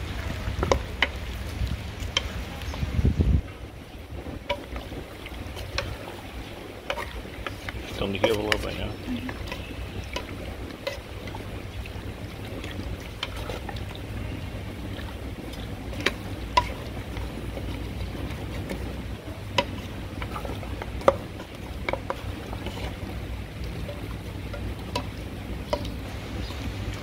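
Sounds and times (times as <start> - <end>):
steady low rumble: 0.0 - 27.0
spatula stirring meat in pot: 0.5 - 2.5, 3.6 - 27.0.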